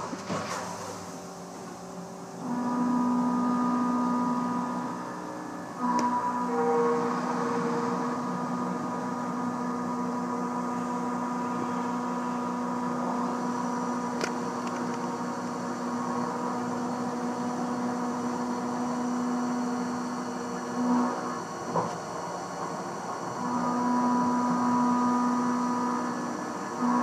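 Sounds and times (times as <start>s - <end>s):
milling machine spindle whine: 0.0s - 27.0s.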